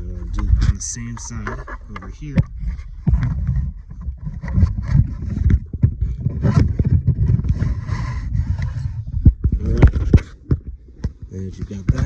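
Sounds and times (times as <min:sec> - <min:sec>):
seat belt webbing scraping plastic: 0:00.0 - 0:10.4.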